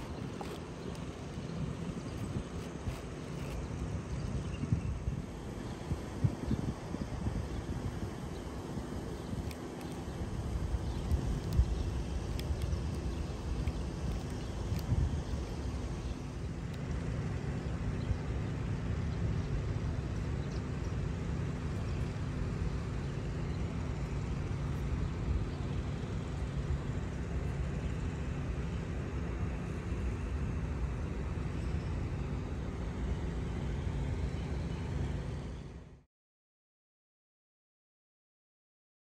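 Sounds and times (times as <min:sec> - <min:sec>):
road traffic rumble: 0:00.0 - 0:36.0
constant low hum: 0:00.0 - 0:36.1.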